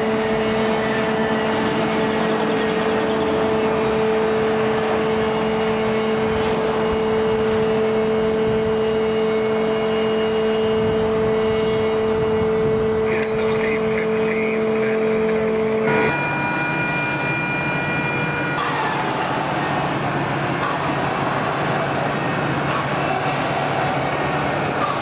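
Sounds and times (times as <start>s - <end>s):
continuous rushing noise: 0.0s - 25.0s
jet engines whining: 0.0s - 25.0s.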